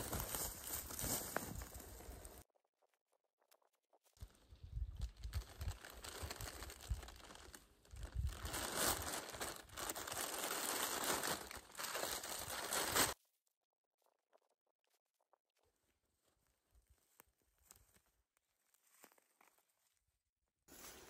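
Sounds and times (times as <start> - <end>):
rustling and crinkling: 0.0 - 2.4, 3.4 - 21.0.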